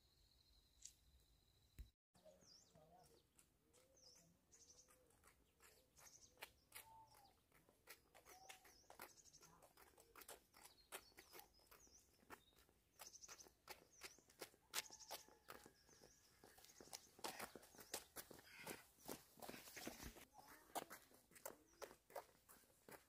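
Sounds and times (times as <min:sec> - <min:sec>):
birds chirping: 0:02.2 - 0:20.8
footsteps on dirt road: 0:02.8 - 0:23.0.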